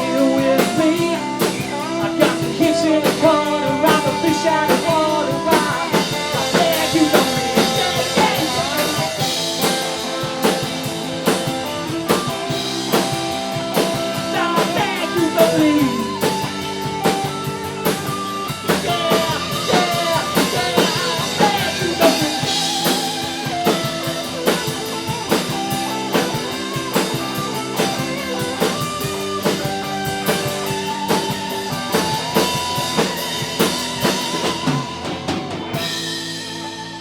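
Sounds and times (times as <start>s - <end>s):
bass guitar: 0.0s - 37.0s
drum kit: 0.0s - 37.0s
electric guitar: 0.0s - 37.0s.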